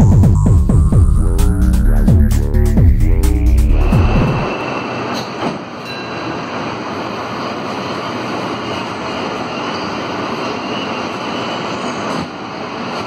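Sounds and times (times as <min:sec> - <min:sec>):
metro car rushing noise: 0:00.0 - 0:13.0.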